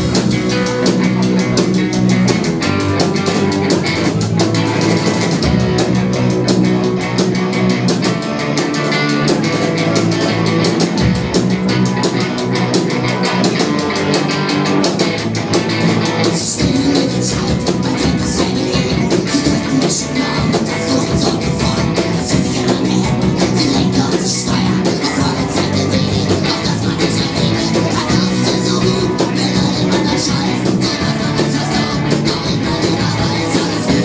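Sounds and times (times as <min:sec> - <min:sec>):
live rock band: 0:00.0 - 0:34.0.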